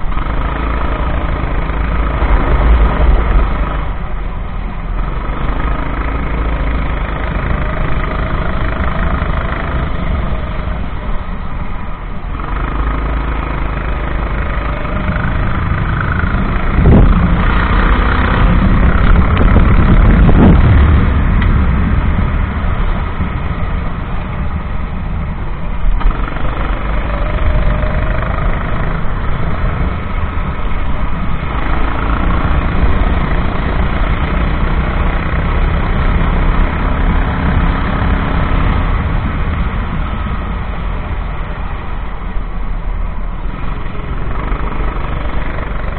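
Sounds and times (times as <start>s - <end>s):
kart engine running: 0.0s - 45.9s
loud rushing noise: 0.0s - 45.9s.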